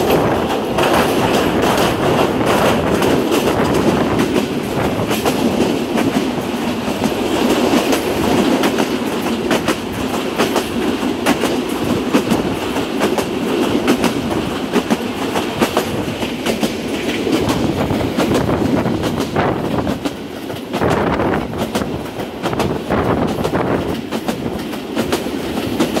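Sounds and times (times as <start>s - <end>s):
train wheels clacking over rail joints: 0.0s - 26.0s.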